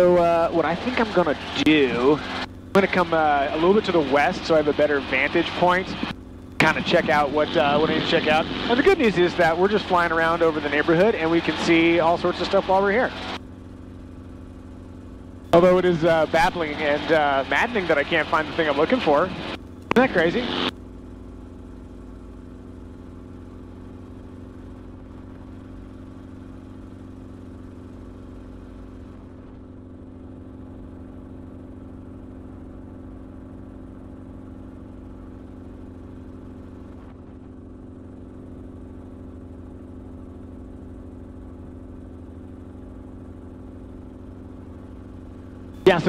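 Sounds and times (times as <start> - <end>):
helicopter engine and rotor drone: 0.0 - 46.0.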